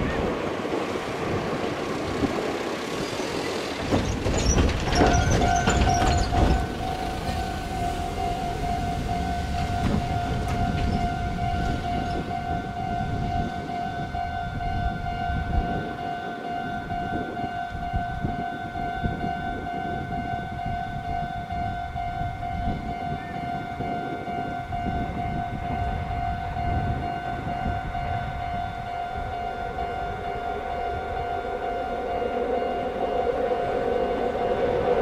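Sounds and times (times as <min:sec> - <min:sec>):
level crossing bell ringing: 0:05.2 - 0:34.7.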